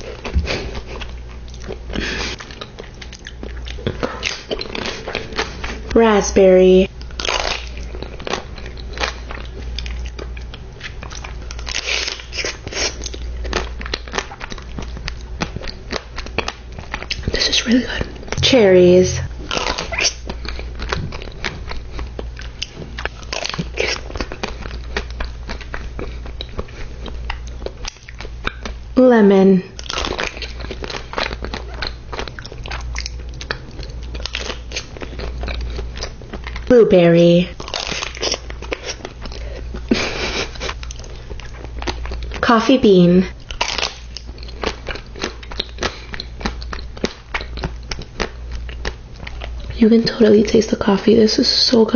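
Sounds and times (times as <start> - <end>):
crunchy chewing: 0.0 - 6.0, 6.9 - 18.4, 19.2 - 28.9, 29.7 - 36.7, 37.5 - 42.5, 43.3 - 49.8
steady low hum: 0.0 - 51.9.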